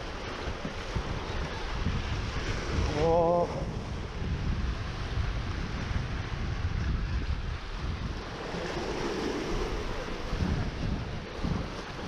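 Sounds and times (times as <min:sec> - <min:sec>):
waves breaking on rocks: 0:00.0 - 0:12.0
wind buffeting microphone: 0:00.0 - 0:12.0.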